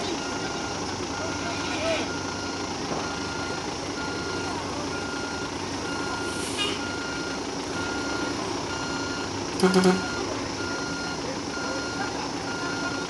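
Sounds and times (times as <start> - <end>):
diesel engines running: 0.0 - 13.0
reversing alarm beeping: 0.1 - 13.0.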